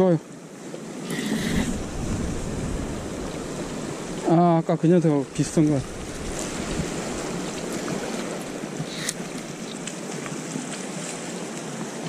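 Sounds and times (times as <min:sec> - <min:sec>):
surf washing against rocks: 0:00.0 - 0:12.0.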